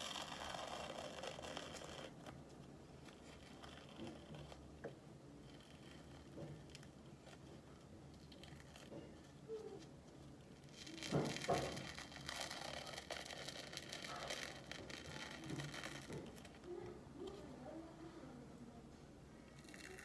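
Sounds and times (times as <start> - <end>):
peel-off mask rustling: 0.0 - 17.6.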